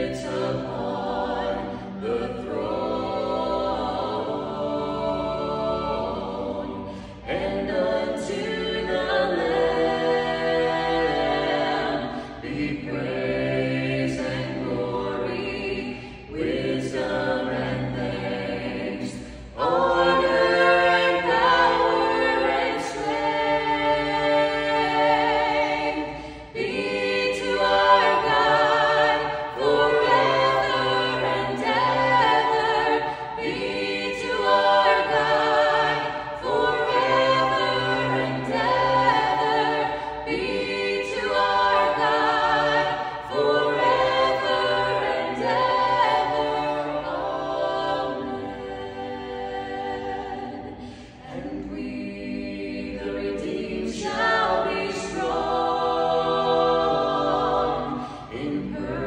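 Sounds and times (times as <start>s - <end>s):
a cappella group singing: 0.0s - 59.0s.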